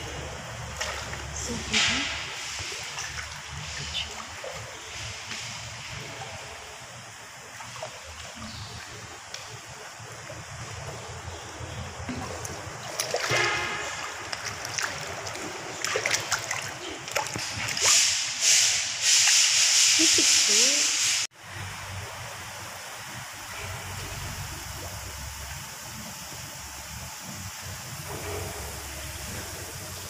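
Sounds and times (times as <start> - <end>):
water splashing and sloshing: 0.0 - 30.0.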